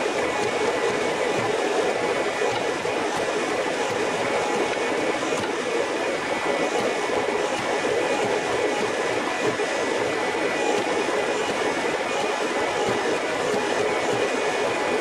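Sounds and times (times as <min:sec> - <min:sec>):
hydraulic press humming: 0:00.2 - 0:15.0.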